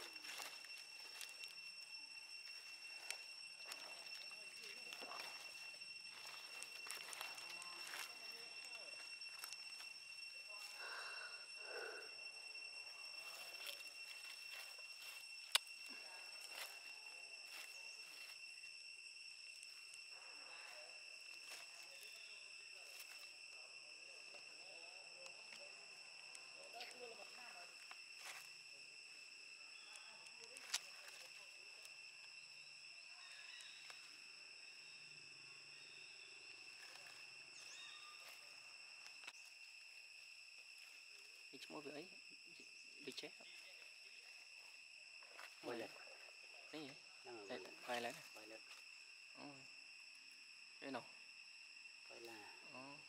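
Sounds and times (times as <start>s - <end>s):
small chirps: 0.0s - 23.6s, 24.3s - 49.6s
high-pitched insect drone: 0.0s - 53.0s.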